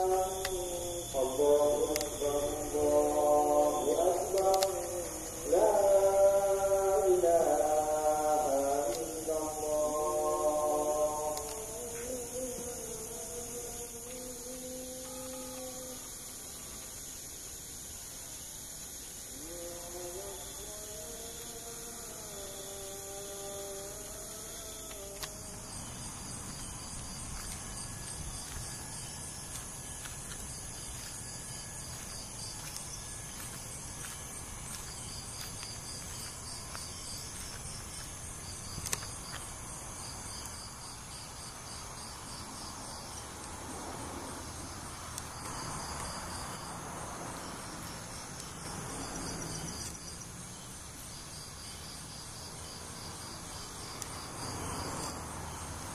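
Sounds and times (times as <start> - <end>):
constant hiss: 0.0 - 55.9
crickets chirping: 0.0 - 55.9.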